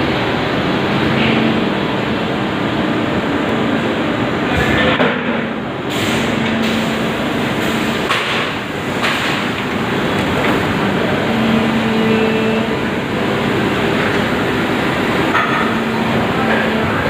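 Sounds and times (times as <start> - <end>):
injection moulding machine running: 0.0 - 17.0.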